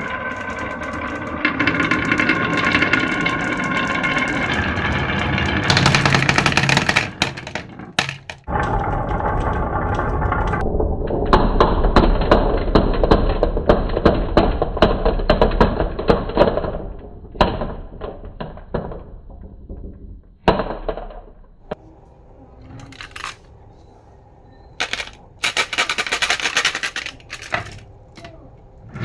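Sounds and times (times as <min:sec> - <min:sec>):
marbles rolling and clattering: 0:00.0 - 0:29.0.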